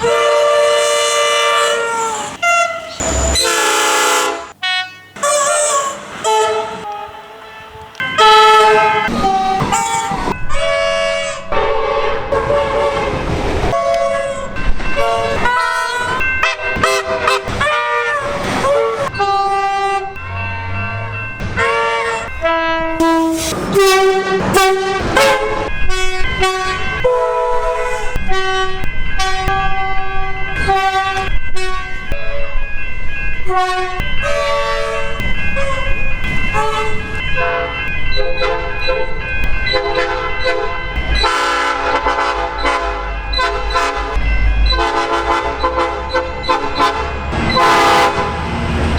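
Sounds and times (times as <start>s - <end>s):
train horn blasts: 0.0s - 20.2s, 21.6s - 32.4s, 33.4s - 39.1s, 39.7s - 48.9s.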